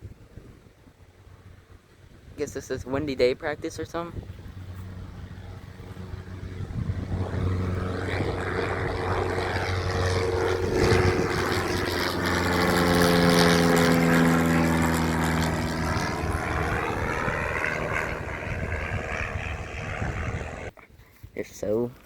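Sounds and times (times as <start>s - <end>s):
propeller airplane passing: 0.0s - 20.8s.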